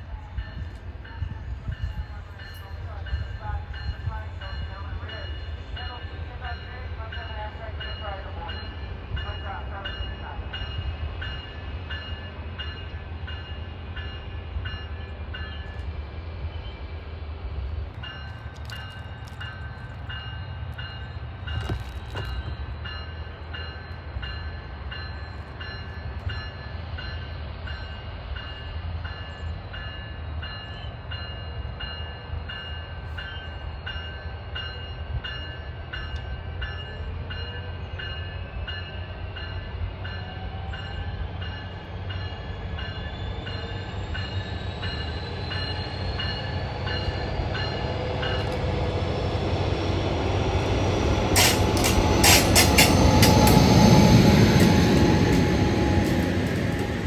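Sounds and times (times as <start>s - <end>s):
train rumbling by: 0.0s - 57.0s.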